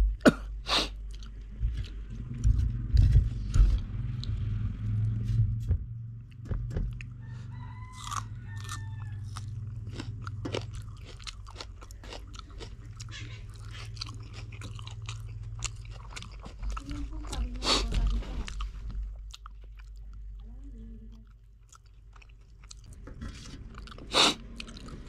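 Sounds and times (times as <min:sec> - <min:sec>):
steady low hum: 0:00.0 - 0:25.0
chewing and crunching: 0:00.9 - 0:04.4, 0:06.2 - 0:25.0.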